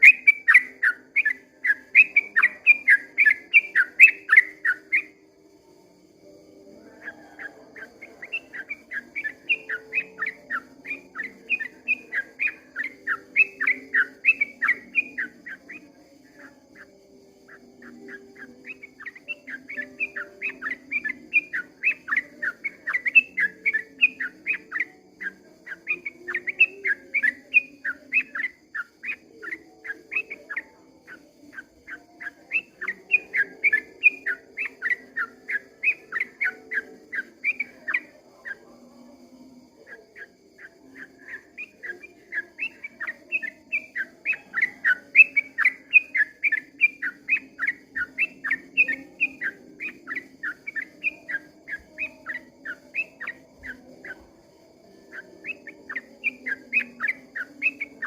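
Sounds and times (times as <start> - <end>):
bird chattering song: 0.0 - 5.2, 6.2 - 58.0.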